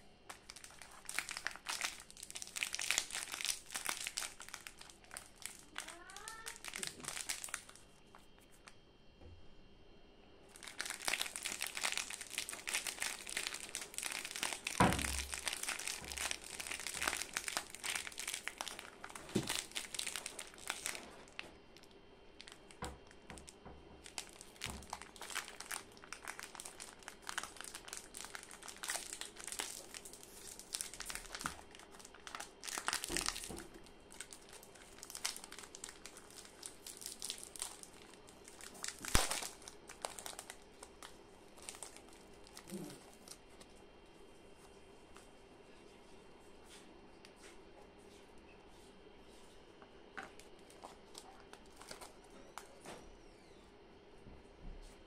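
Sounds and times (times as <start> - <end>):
plastic wrapper crinkling: 0.3 - 8.7, 10.5 - 43.9, 50.2 - 52.8.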